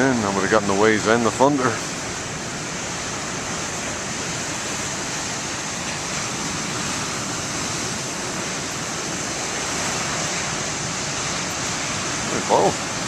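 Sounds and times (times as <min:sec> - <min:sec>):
ocean waves breaking on shore: 0:00.0 - 0:13.0.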